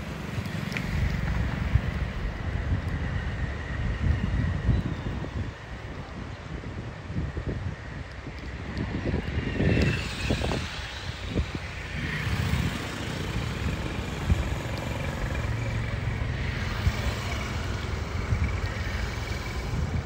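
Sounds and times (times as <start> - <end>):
vehicles passing on a bridge: 0.0 - 20.0
wind buffeting the microphone: 0.0 - 20.0.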